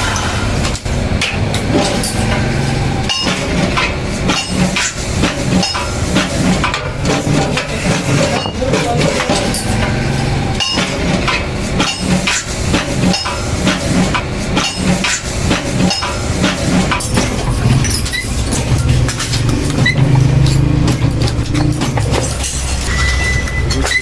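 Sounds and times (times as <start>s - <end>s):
machine hum: 0.0s - 24.0s
metal knocks and clatter: 0.6s - 24.0s.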